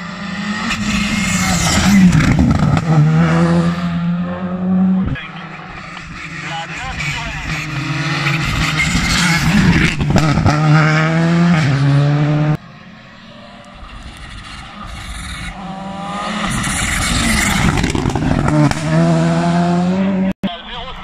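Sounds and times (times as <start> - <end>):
rally car engine at full throttle: 0.0 - 20.9
approaching rally car: 0.0 - 21.0.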